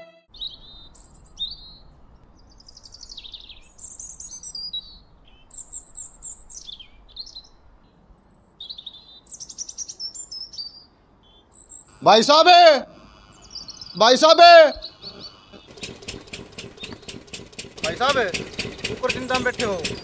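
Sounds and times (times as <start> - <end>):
small birds chirping: 0.3 - 20.0.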